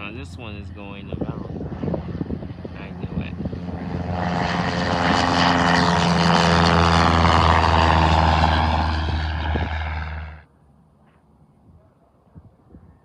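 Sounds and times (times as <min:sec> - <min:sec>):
propeller plane engine passing: 0:00.0 - 0:11.4.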